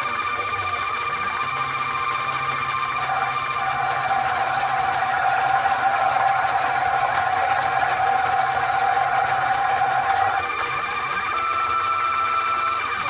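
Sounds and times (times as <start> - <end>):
metal lathe whining: 0.0 - 13.0.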